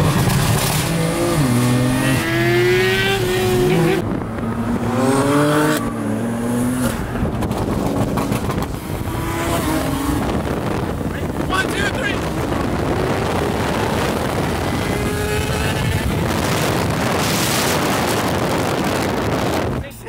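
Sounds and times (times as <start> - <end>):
car engine accelerating: 0.0 - 19.8.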